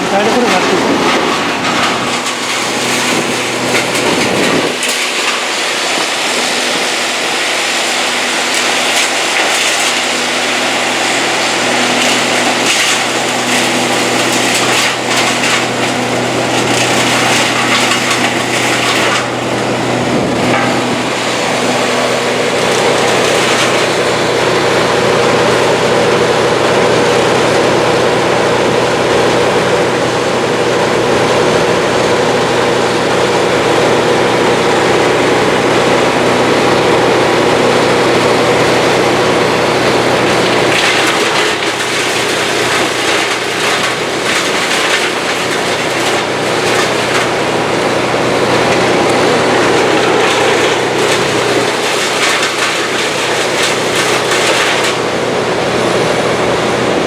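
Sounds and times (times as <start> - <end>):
engine running with steady hum: 0.0 - 57.0.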